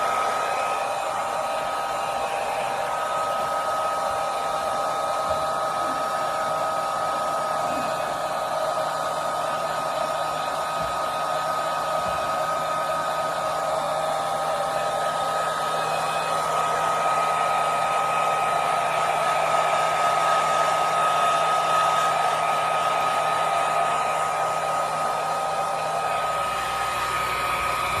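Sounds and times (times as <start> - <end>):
hair dryer blowing: 0.0 - 28.0.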